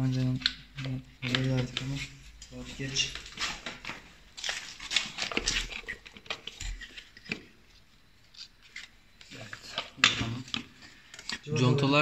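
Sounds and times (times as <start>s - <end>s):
clicks and scrapes of parts: 0.4s - 7.5s, 8.2s - 11.4s.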